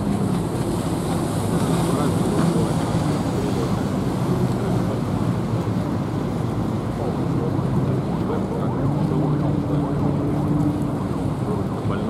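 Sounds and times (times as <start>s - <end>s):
boat and jet ski engines droning: 0.0s - 12.0s
wind rumble on microphone: 0.0s - 12.0s.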